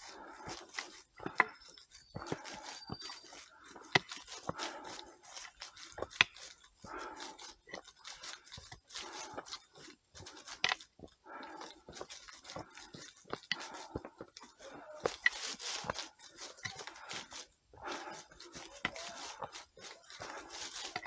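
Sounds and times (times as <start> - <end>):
footsteps on a trail: 0.0 - 21.0
hard breathing: 0.0 - 21.0.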